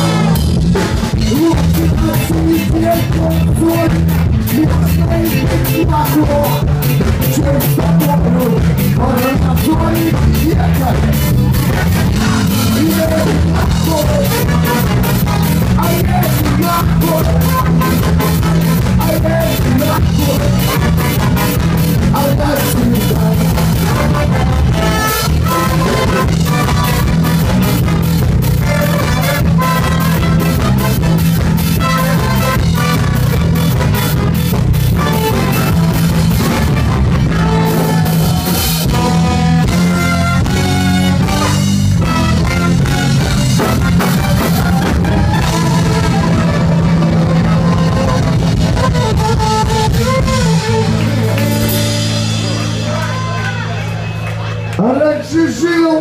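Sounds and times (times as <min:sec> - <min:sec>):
live brass band playing: 0:00.0 - 0:54.5
tuba bass line: 0:00.0 - 0:54.8.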